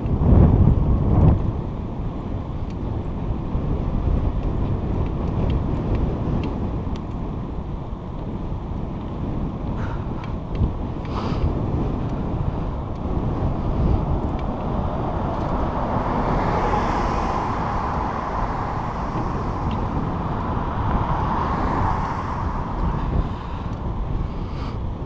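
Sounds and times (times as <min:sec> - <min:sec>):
bike rolling on trail: 0:00.0 - 0:25.0
wind buffeting microphone: 0:00.0 - 0:25.0.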